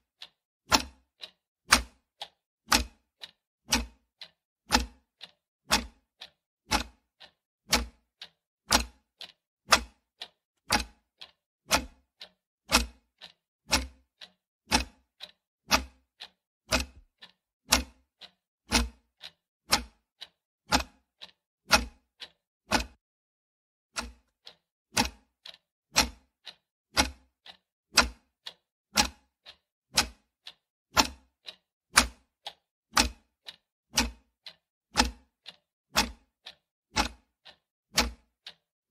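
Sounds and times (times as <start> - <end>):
clock ticking: 0.0 - 23.0, 24.0 - 38.7.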